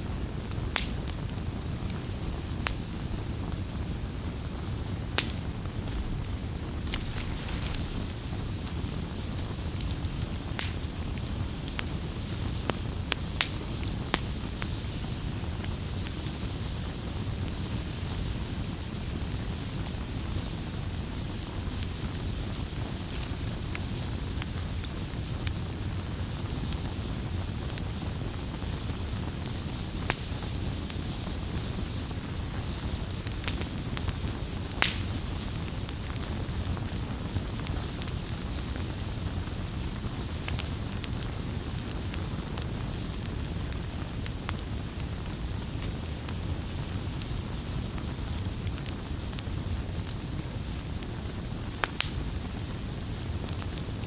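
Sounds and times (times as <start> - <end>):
campfire rumble and hiss: 0.0 - 54.0
wood crackling and popping: 0.1 - 54.0.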